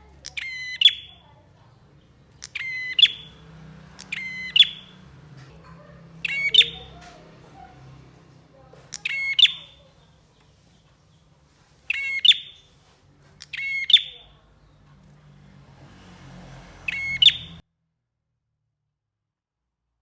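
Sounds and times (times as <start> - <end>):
bird chirping phrases: 0.0 - 17.6.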